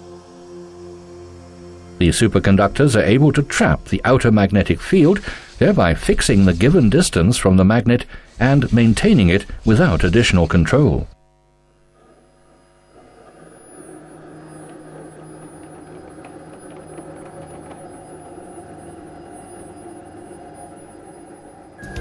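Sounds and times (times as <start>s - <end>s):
mechanical hum and whir: 0.0s - 22.0s.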